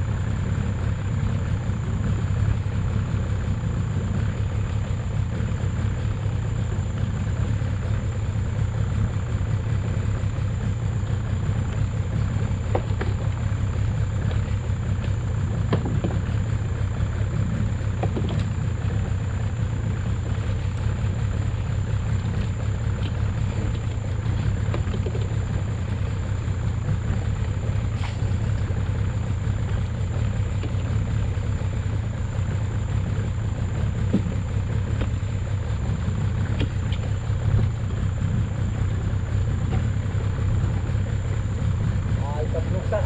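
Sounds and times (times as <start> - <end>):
boat engine idling: 0.0 - 43.0.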